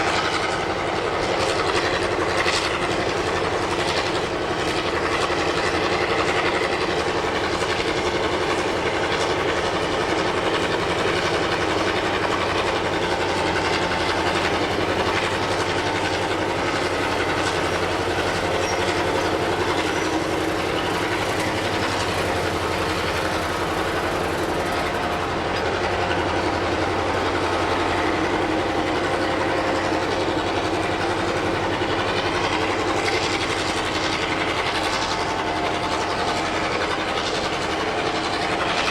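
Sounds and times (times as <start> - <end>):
locomotive engine running: 0.0 - 38.9.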